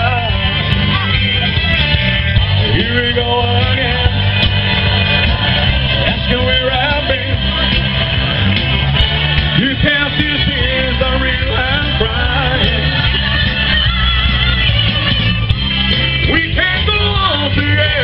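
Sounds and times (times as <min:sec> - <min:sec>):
person singing: 0:00.0 - 0:04.6, 0:05.3 - 0:07.9, 0:09.4 - 0:18.0
live rock and roll band: 0:00.0 - 0:18.0.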